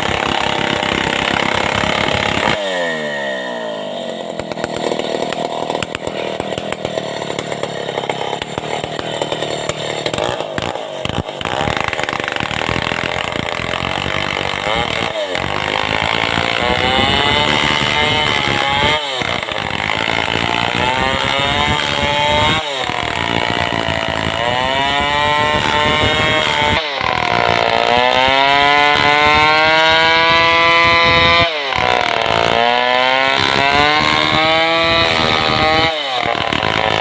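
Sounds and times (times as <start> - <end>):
chainsaw ripping a log: 0.0 - 37.0.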